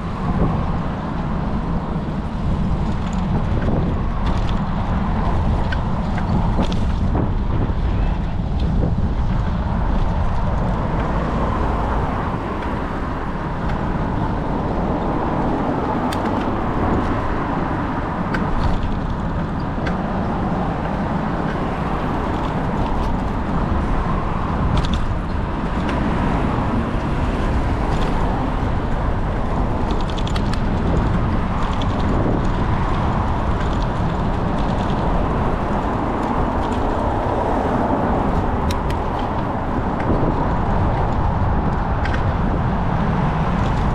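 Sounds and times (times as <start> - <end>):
road noise rumble: 0.0 - 43.9
wind rushing on microphone: 0.0 - 43.9.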